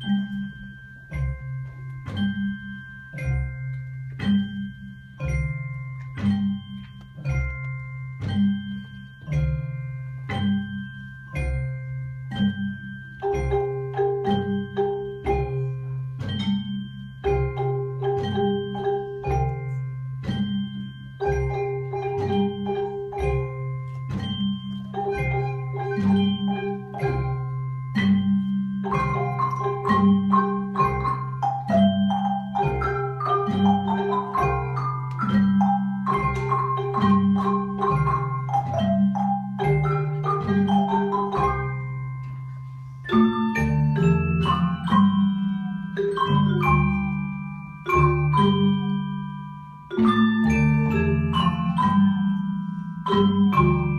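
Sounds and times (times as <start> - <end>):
marimbas and xylophones playing: 0.0 - 53.9.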